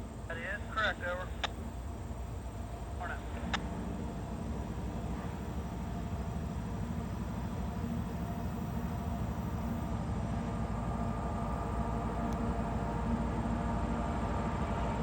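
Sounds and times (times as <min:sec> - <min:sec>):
freight train locomotives rumbling: 0:00.0 - 0:15.0.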